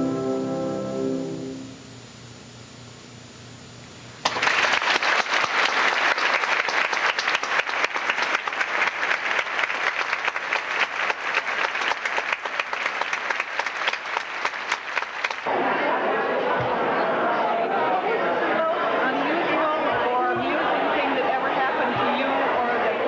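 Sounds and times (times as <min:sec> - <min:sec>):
audience applauding: 0:04.2 - 0:23.0.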